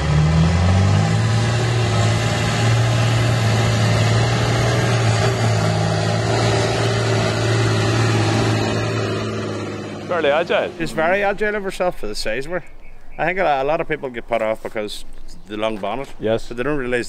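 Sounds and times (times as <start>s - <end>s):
tractor diesel engine under load: 0.0s - 14.5s.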